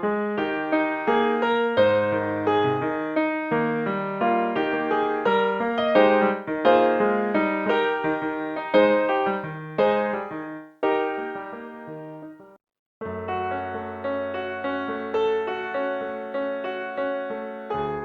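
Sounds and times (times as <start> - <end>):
solo piano melody: 0.0 - 18.0.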